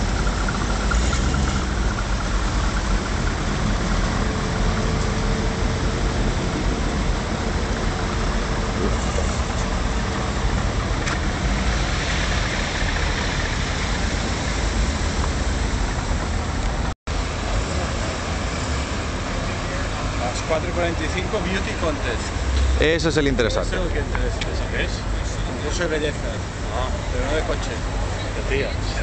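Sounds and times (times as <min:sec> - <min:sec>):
car engines idling: 0:00.0 - 0:29.0.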